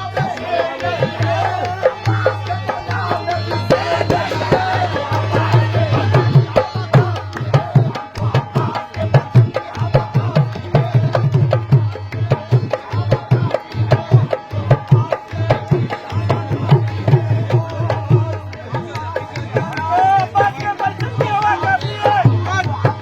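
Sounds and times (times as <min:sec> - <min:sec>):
hand drums fast rhythm: 0:00.0 - 0:23.0.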